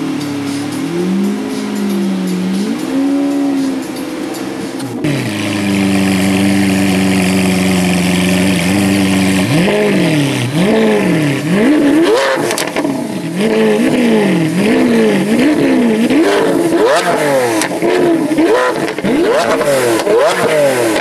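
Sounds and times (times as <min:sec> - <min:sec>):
supercar engine revving: 0:00.0 - 0:21.0.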